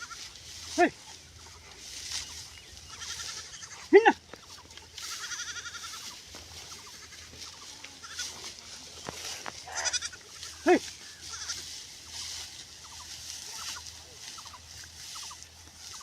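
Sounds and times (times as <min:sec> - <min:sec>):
farm animal calling: 0:00.0 - 0:16.0.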